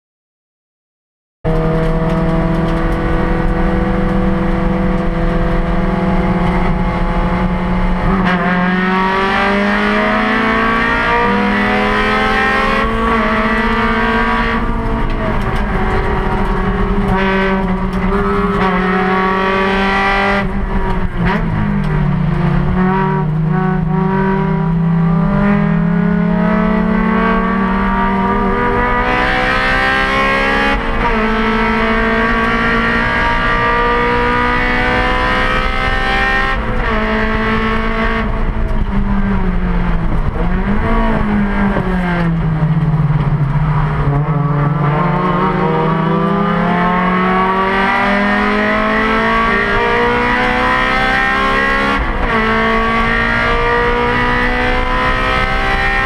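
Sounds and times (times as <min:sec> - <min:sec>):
race car engine under load: 0:01.4 - 0:56.0.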